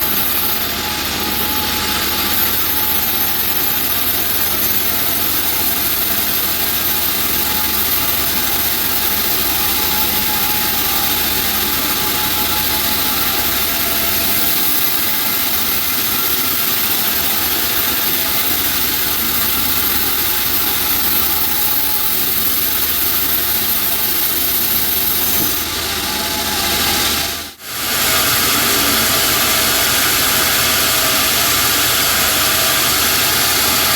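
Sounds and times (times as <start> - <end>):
band sawmill cutting timber: 0.0 - 33.9.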